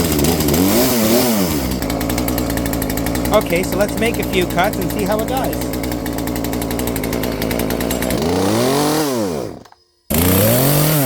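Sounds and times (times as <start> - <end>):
chainsaw engine idling and revving: 0.0 - 11.0.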